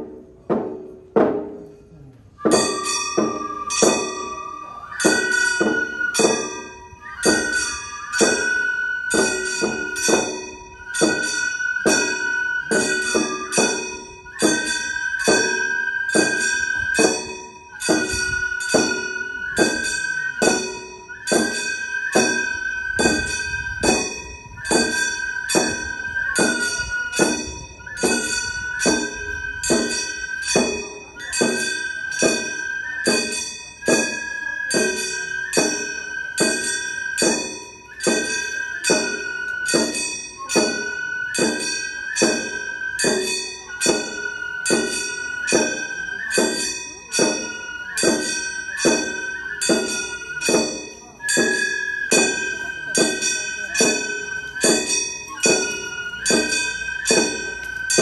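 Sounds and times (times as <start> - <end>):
bamboo flute melody: 0.0 - 58.0.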